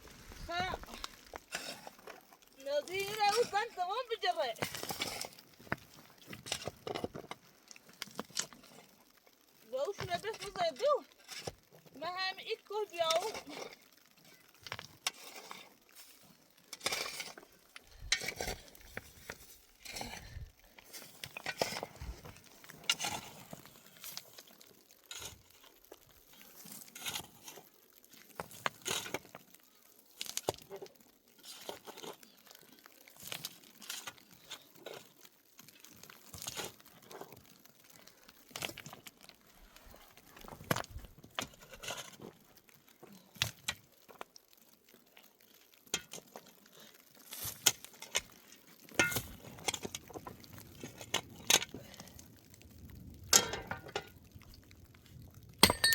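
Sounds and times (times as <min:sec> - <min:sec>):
small objects clicking and crinkling: 0:00.0 - 0:55.9.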